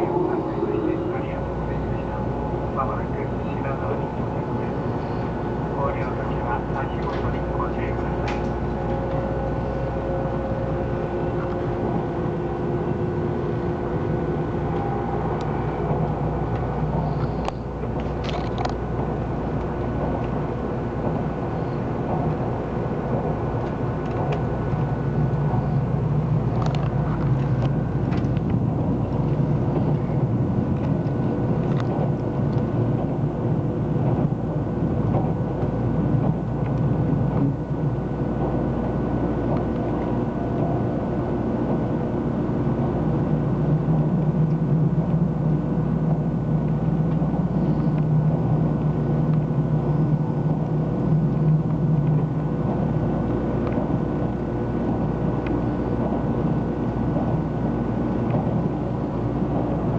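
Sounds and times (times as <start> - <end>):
steady humming tones: 0.0 - 59.9
train rumbling on track: 0.0 - 59.9.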